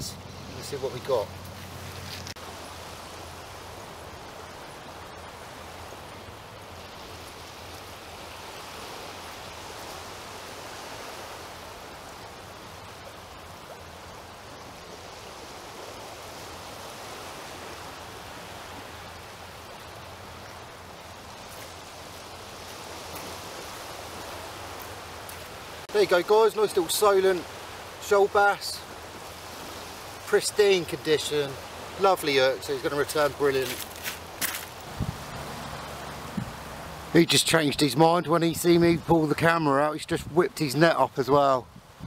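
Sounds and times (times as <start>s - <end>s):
small waves washing on shingle: 0.4s - 37.4s.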